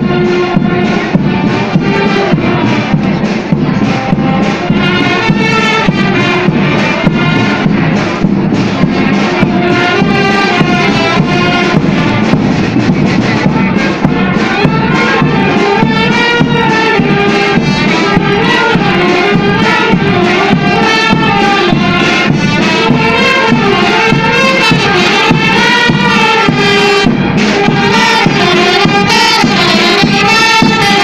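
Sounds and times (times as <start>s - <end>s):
brass band playing: 0.0s - 31.0s
steady drum beat: 0.0s - 31.0s
trumpets playing melody: 0.0s - 31.0s.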